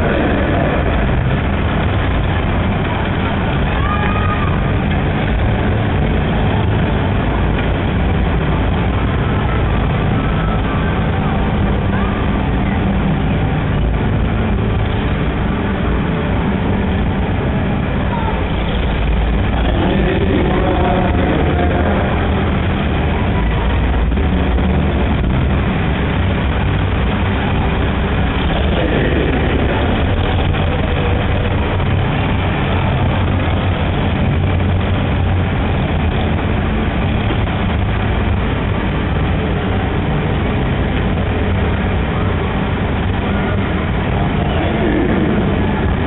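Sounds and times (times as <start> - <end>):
tractor engines rumbling: 0.0 - 46.0.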